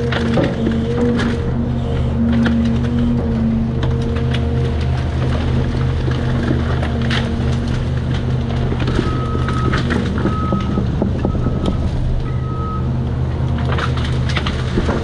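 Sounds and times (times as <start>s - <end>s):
excavator diesel engine running: 0.0s - 15.0s
wood cracking and splintering: 0.0s - 15.0s.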